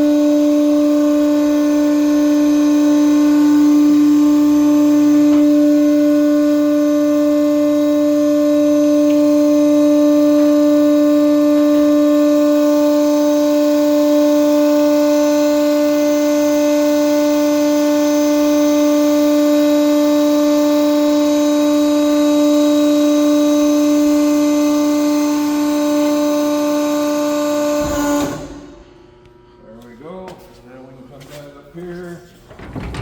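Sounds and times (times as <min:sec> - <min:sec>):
hydraulic pump whining: 0:00.0 - 0:29.2, 0:32.3 - 0:33.0.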